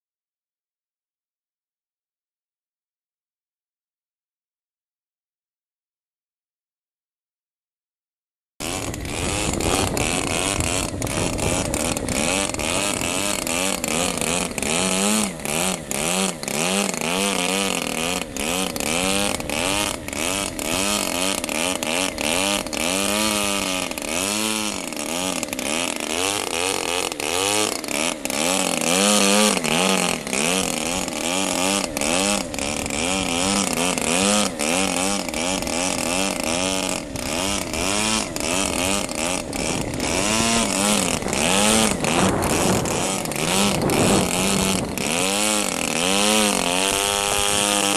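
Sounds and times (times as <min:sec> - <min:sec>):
model plane engine revving: 0:08.6 - 0:47.9.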